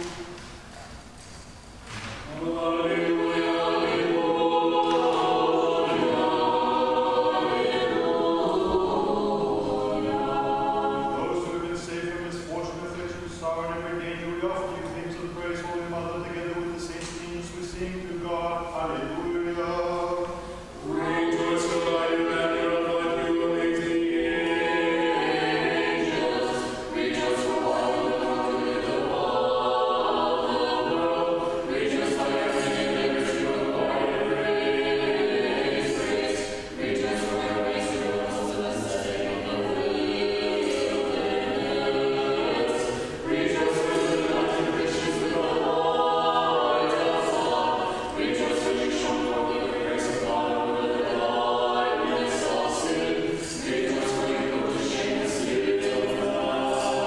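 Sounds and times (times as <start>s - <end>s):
choir chanting unaccompanied: 0.0s - 0.5s, 2.3s - 57.0s.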